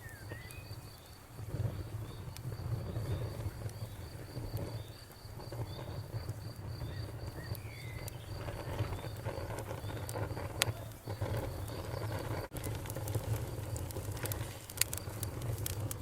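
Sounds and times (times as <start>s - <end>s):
bonfire rumbling: 0.0s - 16.0s
crickets chirping: 0.0s - 16.0s
fire crackles: 0.0s - 16.0s.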